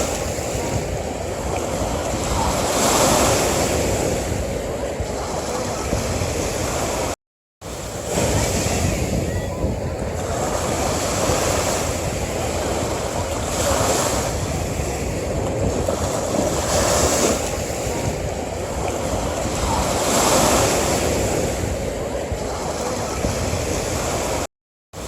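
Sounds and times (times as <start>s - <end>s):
ocean surf washing onto beach: 0.0s - 25.0s.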